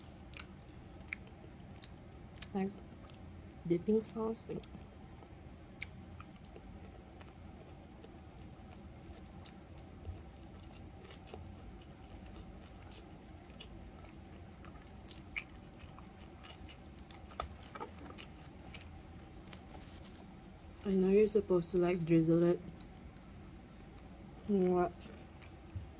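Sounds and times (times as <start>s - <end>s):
chewing food: 0.0s - 3.7s, 4.4s - 25.9s.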